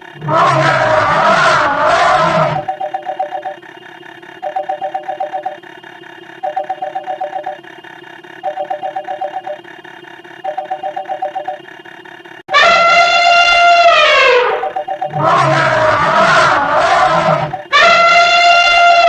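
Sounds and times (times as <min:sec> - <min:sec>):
faint steady hum: 0:00.0 - 0:19.0
phone ringing two-tone trill: 0:02.0 - 0:07.7, 0:08.3 - 0:11.7, 0:12.6 - 0:19.0.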